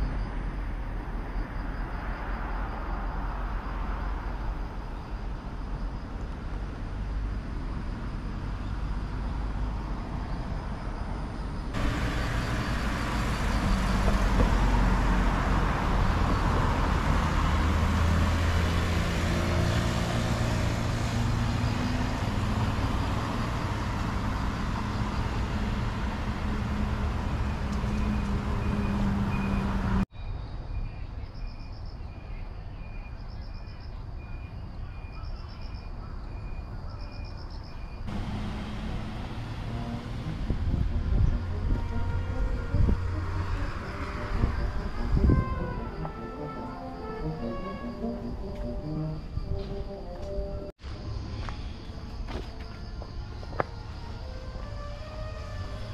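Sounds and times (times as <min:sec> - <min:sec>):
vehicles passing by: 0:00.0 - 0:30.1, 0:37.5 - 0:55.9.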